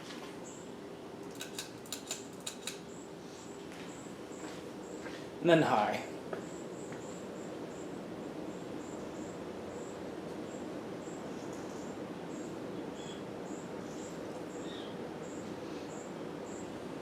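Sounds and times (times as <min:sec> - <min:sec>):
ceiling fan whirring: 0:00.0 - 0:17.0.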